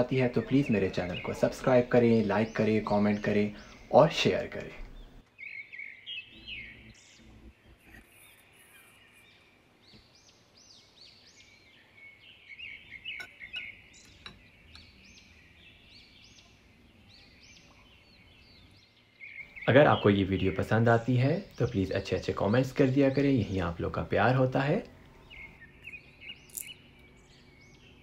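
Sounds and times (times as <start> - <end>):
faint bird chirping: 0.0 - 28.0.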